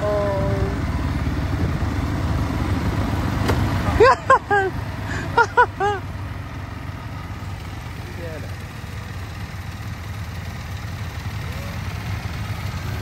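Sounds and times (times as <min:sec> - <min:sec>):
atv engines rumbling: 0:00.0 - 0:13.0.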